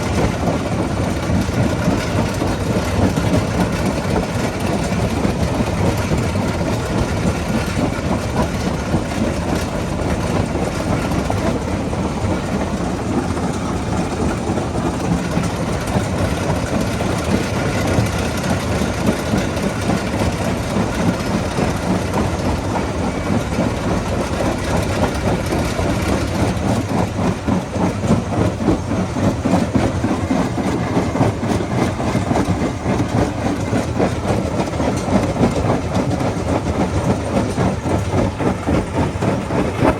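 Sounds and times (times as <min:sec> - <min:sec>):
heavy machine noise: 0:00.0 - 0:39.9.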